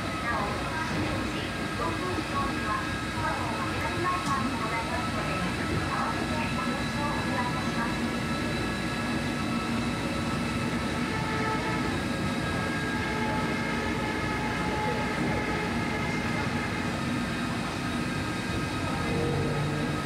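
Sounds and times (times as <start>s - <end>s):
monorail car rumble: 0.0s - 20.0s.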